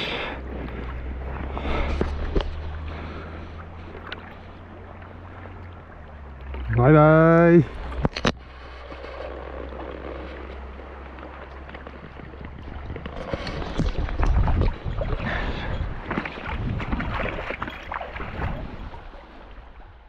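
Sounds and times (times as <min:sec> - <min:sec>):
river flowing and splashing: 0:00.0 - 0:20.0
wind rumble: 0:00.0 - 0:20.0.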